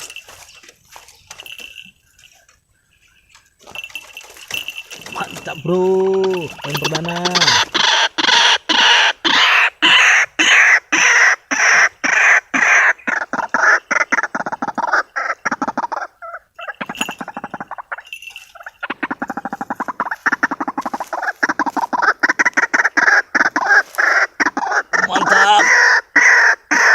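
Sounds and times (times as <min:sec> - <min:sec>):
waterhen harsh croaks: 0:04.7 - 0:26.9.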